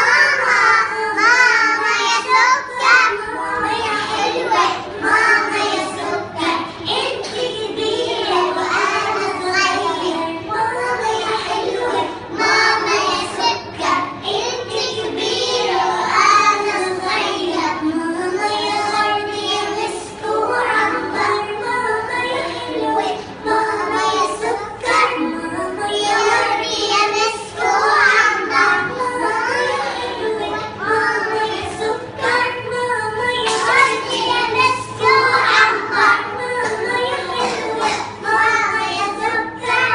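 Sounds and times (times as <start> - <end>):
children singing together: 0.0 - 39.9.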